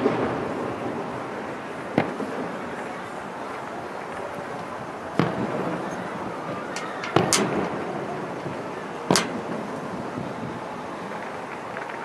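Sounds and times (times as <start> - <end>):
background noise: 0.0 - 12.0
fireworks bangs: 0.0 - 12.0
fireworks crackles: 0.0 - 12.0.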